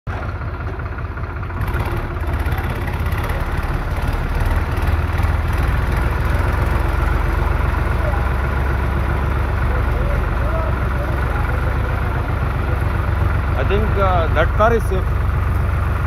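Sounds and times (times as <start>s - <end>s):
vehicle engine rumbling: 0.1s - 16.0s.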